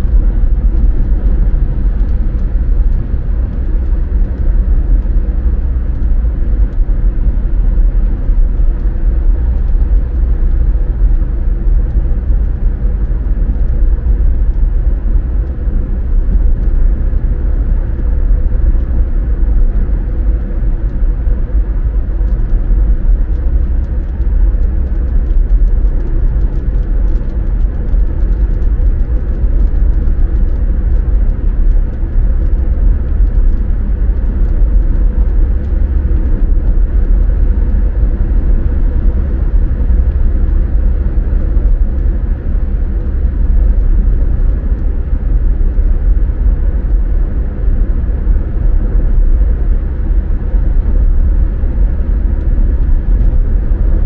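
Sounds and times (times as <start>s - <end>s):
car driving rumble: 0.0s - 54.0s.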